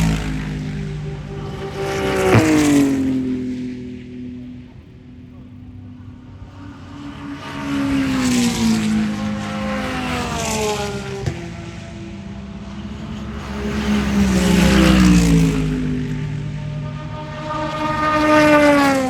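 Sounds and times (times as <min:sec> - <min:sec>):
race cars passing at high speed: 0:00.0 - 0:19.0.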